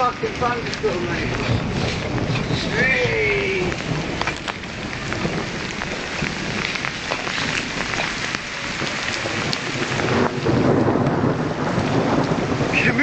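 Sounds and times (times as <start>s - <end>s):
heavy rain falling: 0.0s - 13.0s
low rumble of thunder: 0.0s - 13.0s
raindrops ticking on hard surfaces: 0.0s - 13.0s.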